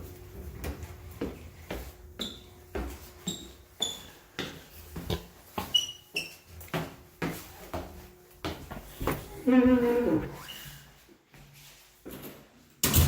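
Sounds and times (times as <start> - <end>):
footsteps walking: 0.0 - 12.5.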